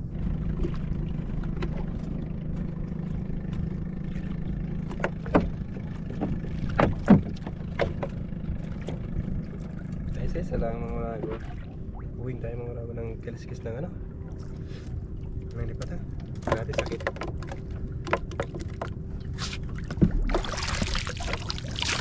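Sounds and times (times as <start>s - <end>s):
steady low drone: 0.0s - 22.0s.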